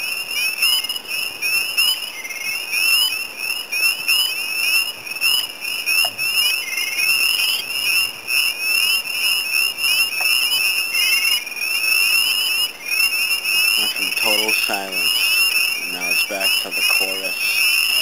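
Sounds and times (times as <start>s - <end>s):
frog trill: 0.0s - 18.0s
frogs peeping: 0.0s - 18.0s.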